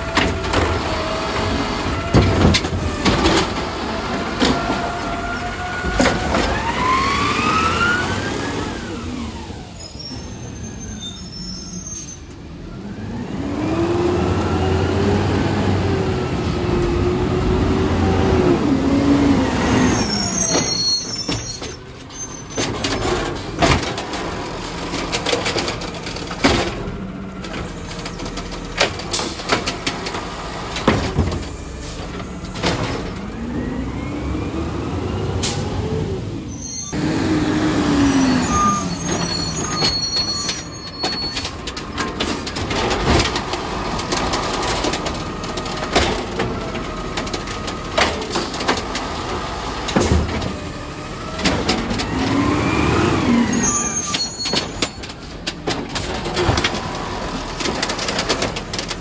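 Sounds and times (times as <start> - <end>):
garbage truck engine revving: 0.0 - 11.5, 12.4 - 59.0.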